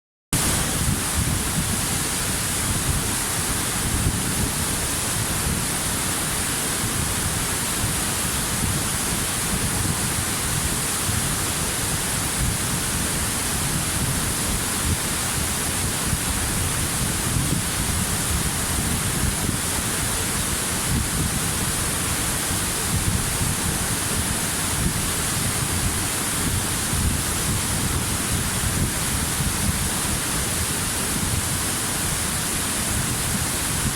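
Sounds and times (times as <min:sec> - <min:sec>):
waterfall rushing: 0:00.4 - 0:33.9.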